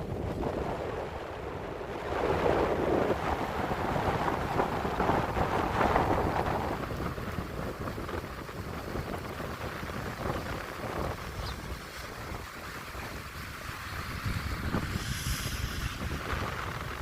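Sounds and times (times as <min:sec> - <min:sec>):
sea surf: 0:00.0 - 0:17.0
wind gusting over microphone: 0:00.0 - 0:17.0.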